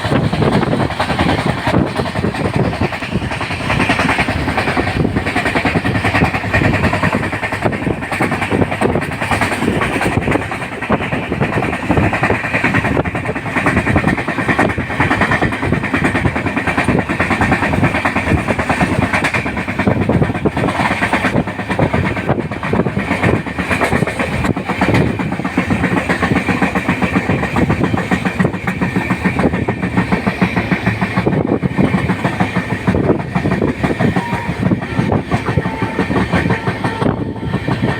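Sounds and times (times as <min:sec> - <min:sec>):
train rumble: 0:00.0 - 0:37.9
wheels clattering over rails: 0:00.0 - 0:37.9.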